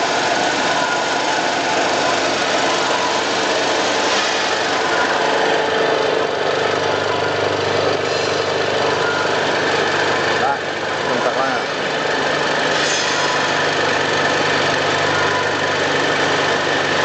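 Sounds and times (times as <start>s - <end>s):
vibrating sieve machine hum: 0.0s - 17.0s.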